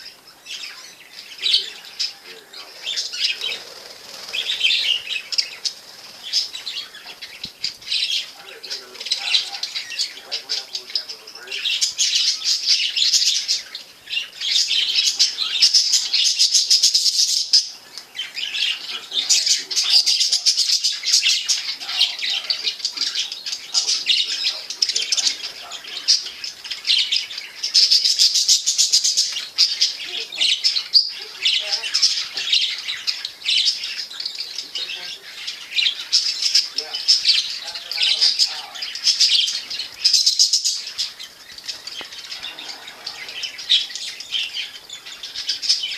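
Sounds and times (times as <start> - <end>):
budgerigars chirping and warbling: 0.0 - 45.9.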